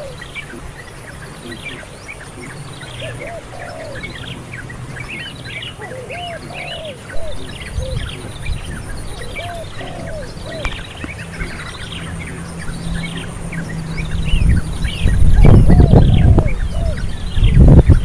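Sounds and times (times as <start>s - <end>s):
birds chirping and calling: 0.0s - 18.0s
loud low rumbling: 0.0s - 18.0s.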